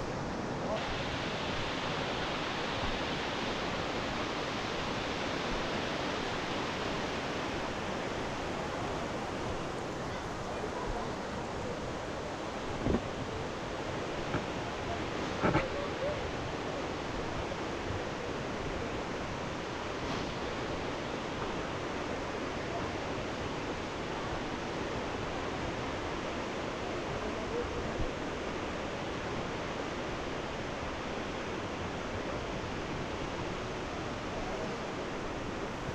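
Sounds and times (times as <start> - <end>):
river rapids rushing: 0.0 - 35.9.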